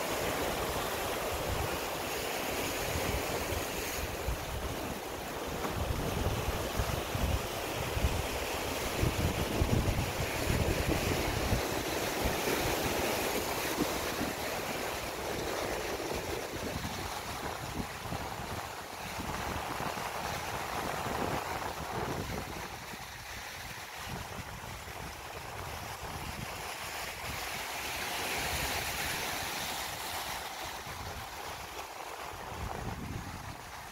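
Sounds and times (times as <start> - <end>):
sea waves washing against rocks: 0.0 - 33.9
wind buffeting the microphone: 0.2 - 31.7, 32.3 - 33.9.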